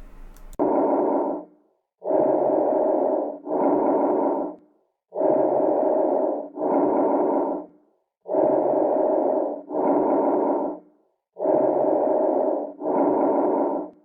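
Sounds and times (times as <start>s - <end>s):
breath sounds through stethoscope: 0.0s - 14.0s.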